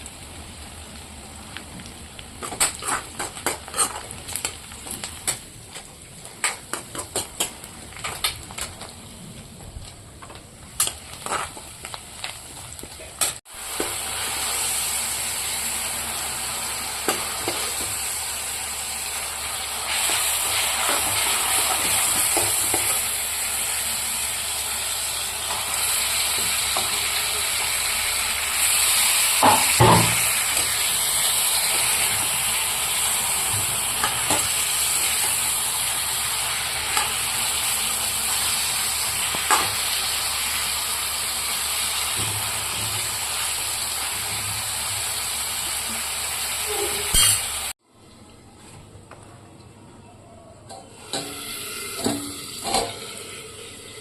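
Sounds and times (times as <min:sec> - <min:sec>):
food sizzling in a pan: 0:00.0 - 0:09.0, 0:10.7 - 0:47.8, 0:51.0 - 0:54.0.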